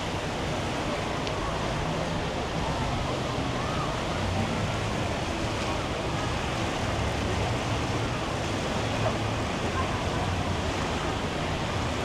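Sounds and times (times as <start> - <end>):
distant voices chatter: 0.0 - 12.0
rushing water: 0.0 - 12.0.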